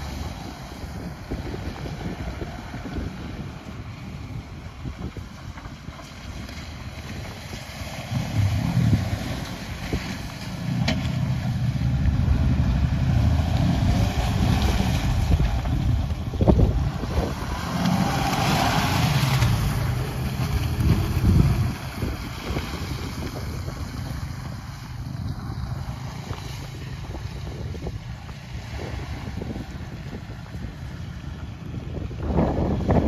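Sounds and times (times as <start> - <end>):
truck engine pulling under load: 0.0 - 33.0
tyres churning through mud: 0.0 - 33.0
wind buffeting microphone: 0.0 - 33.0.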